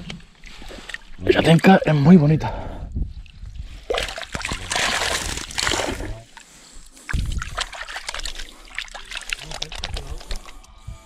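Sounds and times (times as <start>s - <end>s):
water splashing and sloshing: 0.0s - 10.7s.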